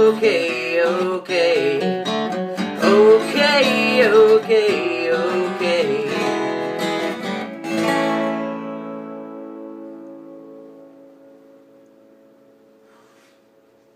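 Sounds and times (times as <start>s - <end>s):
acoustic guitar strumming: 0.0s - 13.8s.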